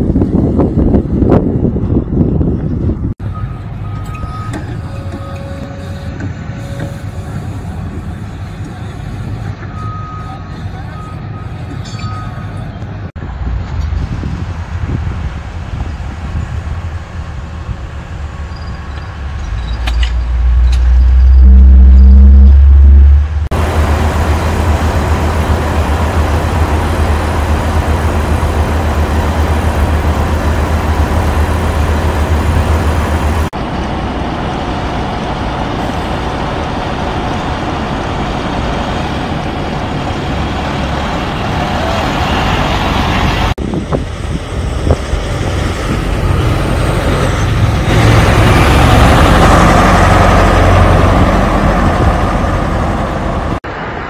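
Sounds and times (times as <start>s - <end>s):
excavator diesel engines: 0.0s - 54.0s
trucks on a road: 0.0s - 54.0s
semi-truck driving by: 0.1s - 54.0s.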